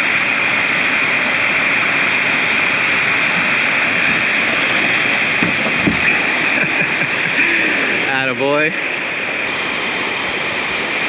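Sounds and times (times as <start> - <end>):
rush of flowing water: 0.0 - 11.0.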